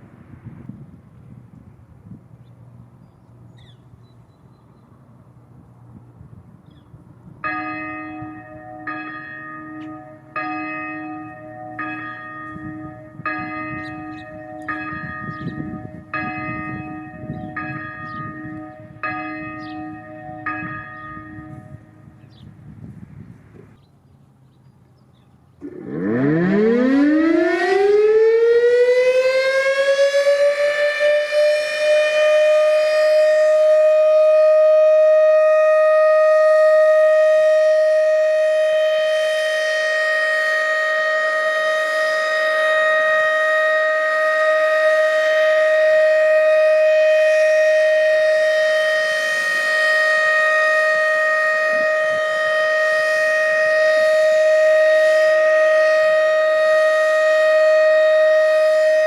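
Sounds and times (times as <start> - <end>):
warning siren rising to steady tone: 2.2 - 23.7, 25.6 - 59.0.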